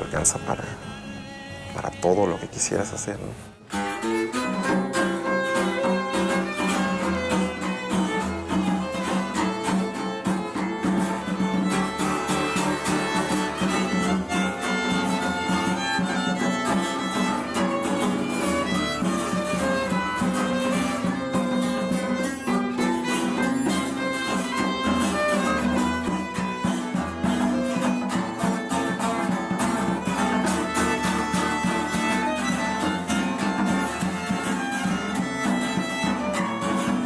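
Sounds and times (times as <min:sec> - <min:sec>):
rhythmic accompaniment: 0:00.0 - 0:37.0
violin melody: 0:00.0 - 0:37.0.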